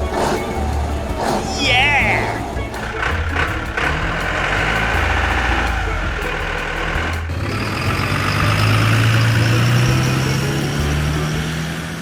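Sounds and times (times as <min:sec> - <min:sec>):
engine humming: 0:00.0 - 0:12.0
rising engine drone: 0:00.0 - 0:12.0.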